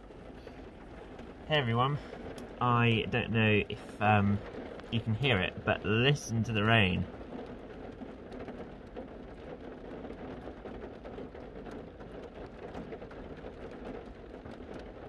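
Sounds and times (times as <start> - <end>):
rain on a car roof: 0.0 - 15.0.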